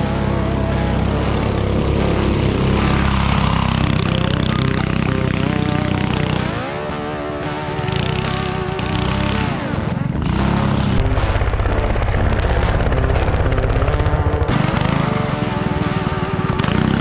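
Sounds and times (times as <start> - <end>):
go-kart engine revving: 0.0 - 17.0.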